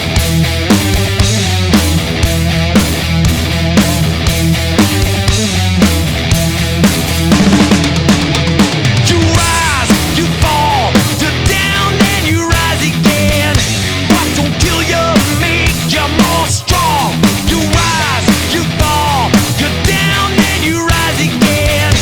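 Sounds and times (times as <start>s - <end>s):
heavy rock music: 0.0s - 22.0s.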